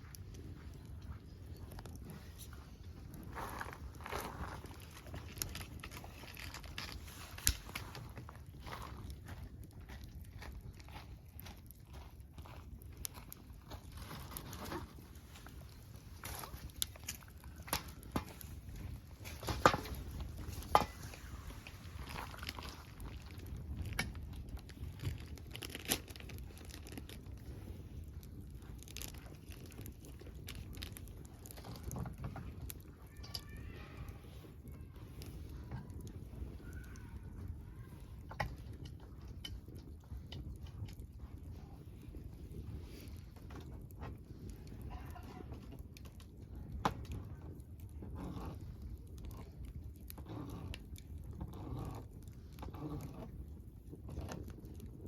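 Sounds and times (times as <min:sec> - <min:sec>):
campfire crackling and popping: 0:00.0 - 0:55.0
low steady rumble: 0:00.0 - 0:55.0.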